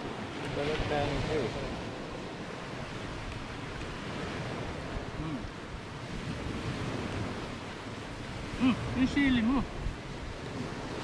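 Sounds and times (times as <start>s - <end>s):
sea waves washing: 0.0s - 11.0s
wind blowing across microphone: 0.0s - 11.0s.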